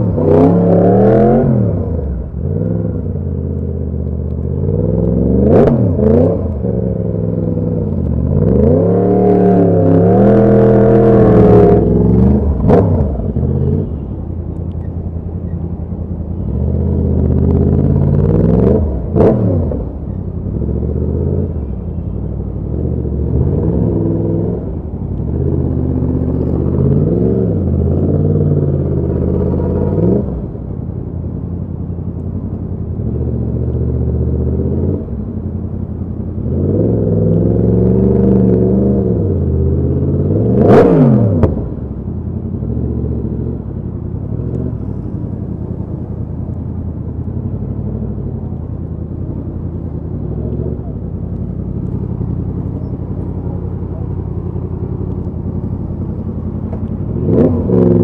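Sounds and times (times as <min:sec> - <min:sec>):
motorcycle engine revving and idling: 0:00.0 - 0:58.0.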